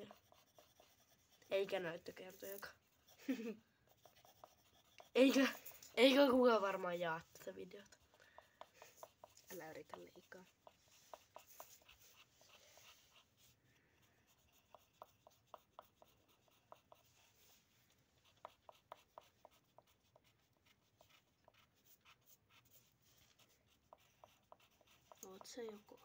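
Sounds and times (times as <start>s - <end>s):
pencil scratching on paper: 0.0s - 26.0s.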